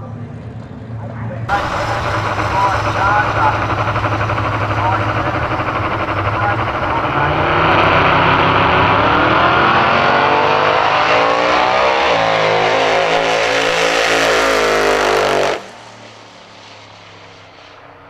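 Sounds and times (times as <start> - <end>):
drag car engine at full throttle: 1.5 - 18.0.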